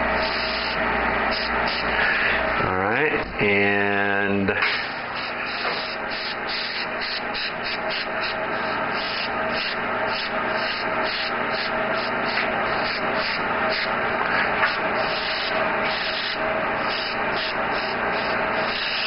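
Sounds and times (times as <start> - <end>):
airbrush hissing: 0.0 - 2.5, 4.8 - 19.0.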